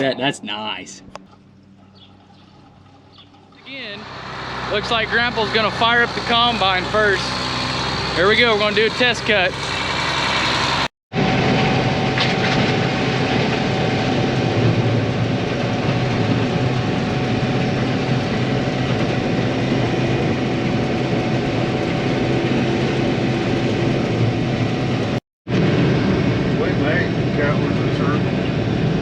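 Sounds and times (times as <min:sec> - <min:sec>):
combine harvester running: 0:01.1 - 0:29.0.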